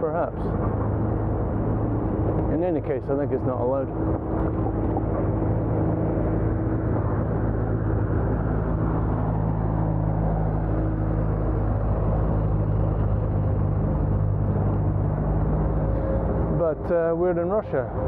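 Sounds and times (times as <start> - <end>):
low steady hum: 0.0 - 18.0
wind and road noise rumble: 0.0 - 18.0.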